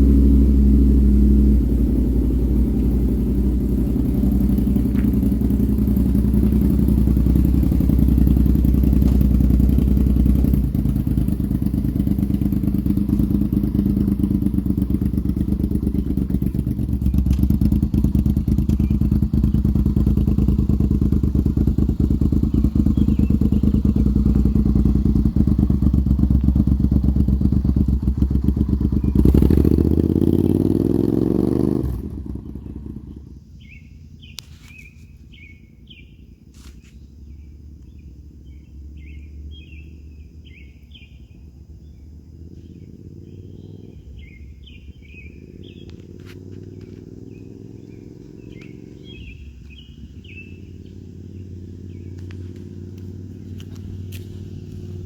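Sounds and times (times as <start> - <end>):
motorcycle engine revving: 0.0 - 55.0
birds chirping: 1.0 - 55.0.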